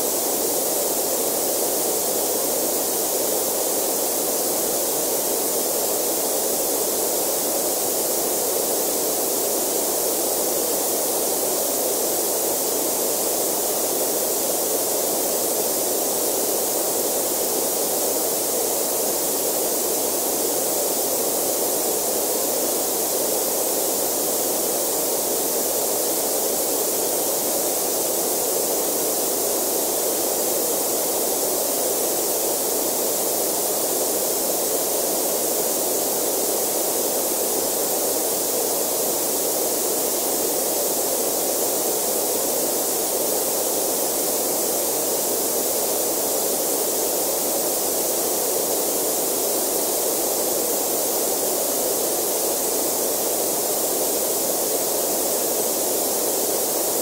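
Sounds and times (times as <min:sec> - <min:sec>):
steady generated noise hiss: 0:00.0 - 0:57.0.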